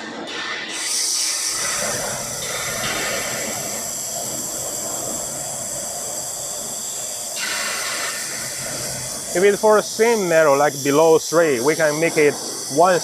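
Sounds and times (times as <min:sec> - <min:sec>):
laser welder hissing: 0:00.3 - 0:13.0.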